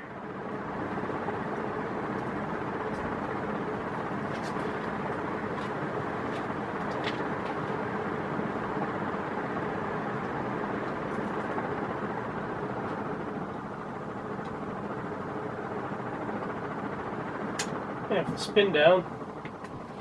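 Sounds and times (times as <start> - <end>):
ceiling fan air rushing: 0.0 - 20.0
faint motor hum: 0.0 - 20.0.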